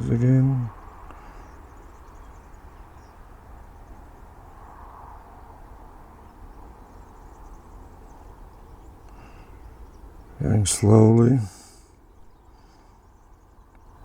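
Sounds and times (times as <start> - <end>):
faint low rumble and hiss: 0.0 - 14.0.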